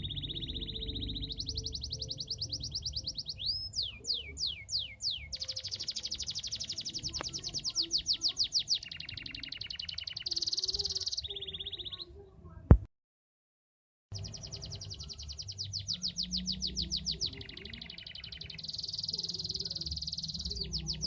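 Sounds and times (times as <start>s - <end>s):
canary singing: 0.0s - 12.3s, 14.1s - 21.0s.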